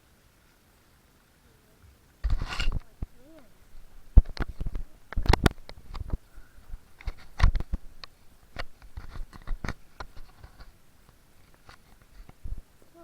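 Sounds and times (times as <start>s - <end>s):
camping gear being handled: 2.2s - 13.0s.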